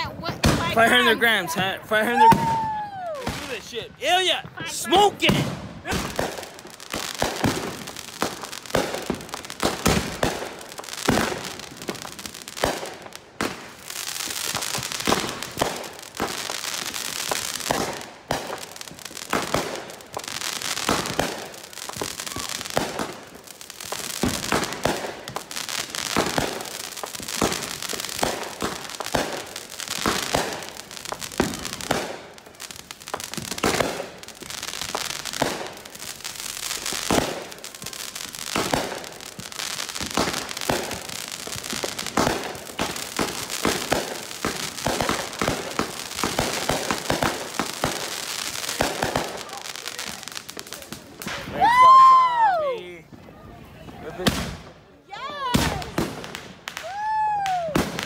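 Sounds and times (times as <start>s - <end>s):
firework crackling and hissing: 0.0s - 58.0s
firework shots: 0.0s - 58.0s.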